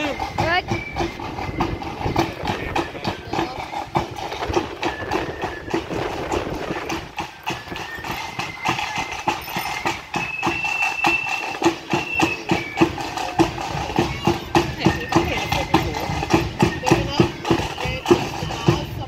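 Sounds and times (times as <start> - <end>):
marching band drums: 0.0 - 19.0.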